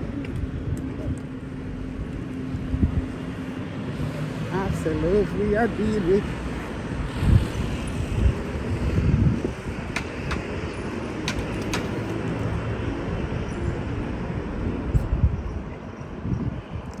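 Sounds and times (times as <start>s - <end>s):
road traffic rumble: 0.0s - 16.8s.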